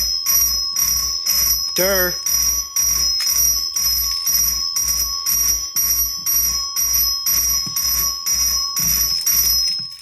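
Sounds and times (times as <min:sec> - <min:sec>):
fire alarm horn buzzing: 0:00.0 - 0:10.0.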